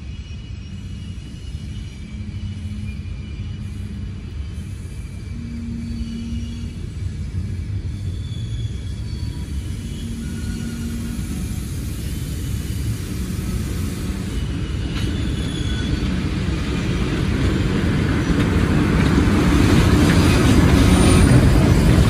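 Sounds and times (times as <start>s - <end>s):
diesel locomotive engine running: 0.0s - 22.0s
steel wheels clattering on rail: 0.8s - 22.0s.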